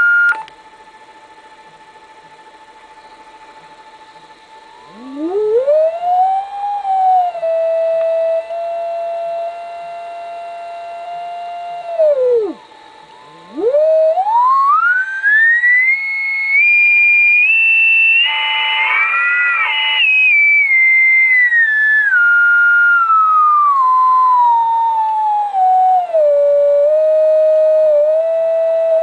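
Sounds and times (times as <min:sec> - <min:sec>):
radio beat-note whistle: 0:00.0 - 0:00.5, 0:04.7 - 0:29.0
faint steady tone: 0:00.0 - 0:29.0.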